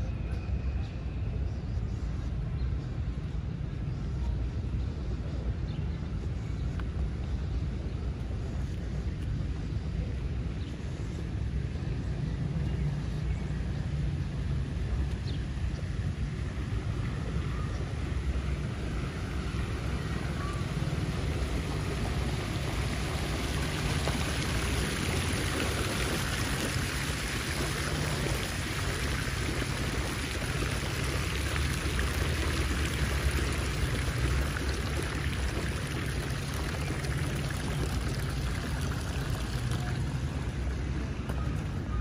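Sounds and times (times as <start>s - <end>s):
fountain jets splashing: 1.3s - 42.0s.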